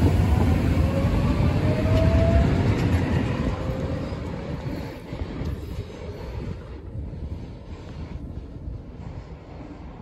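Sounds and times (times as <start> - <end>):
light-rail train passing: 0.0 - 10.0.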